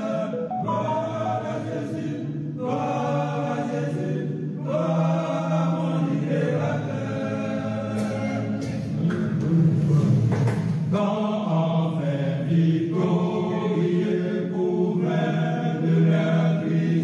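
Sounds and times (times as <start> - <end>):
choir chanting: 0.0 - 10.3, 10.9 - 17.0.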